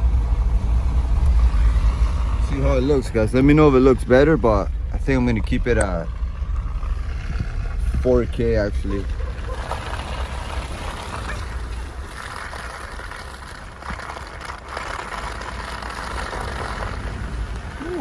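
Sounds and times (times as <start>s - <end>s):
vehicle driving road noise: 0.0s - 18.0s.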